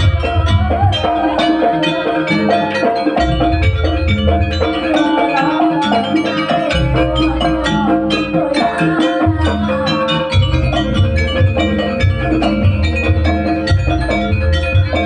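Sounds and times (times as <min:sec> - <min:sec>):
drums: 0:00.0 - 0:15.0
tuned metal percussion: 0:00.0 - 0:15.0.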